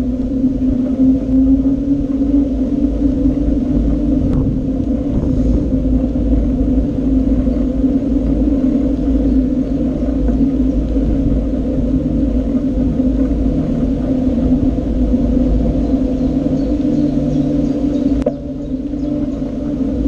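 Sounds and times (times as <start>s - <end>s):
constant low hum: 0.0s - 20.0s
road rumble: 0.0s - 20.0s
wind: 0.0s - 20.0s.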